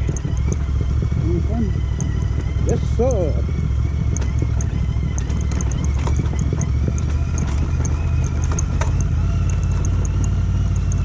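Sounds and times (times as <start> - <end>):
bike rattling over loose stones: 0.0 - 11.0
motorcycle engine at low revs: 0.0 - 11.0.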